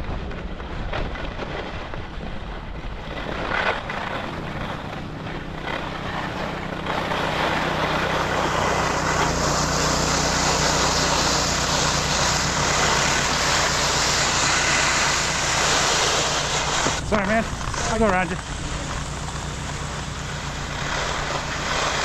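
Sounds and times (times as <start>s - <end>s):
ski edges scraping icy snow: 0.0s - 22.0s
engine droning: 3.1s - 22.0s.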